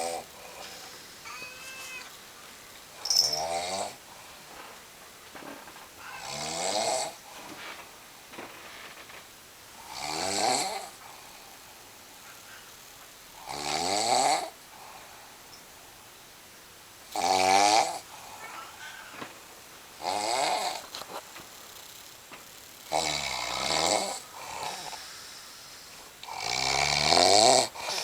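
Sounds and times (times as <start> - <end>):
quiet breaths: 0.0 - 13.5, 14.4 - 16.2, 18.0 - 26.5, 27.7 - 28.0.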